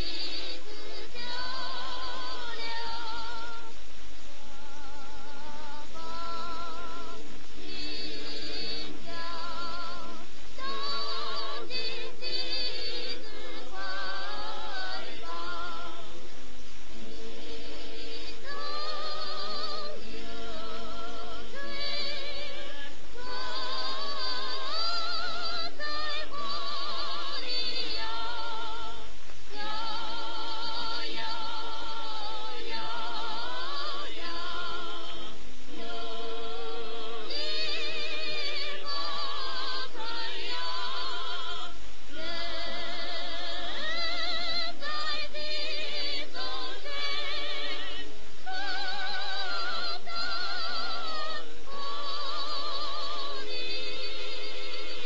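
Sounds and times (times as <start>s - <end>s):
person singing with vibrato: 0.0s - 55.0s.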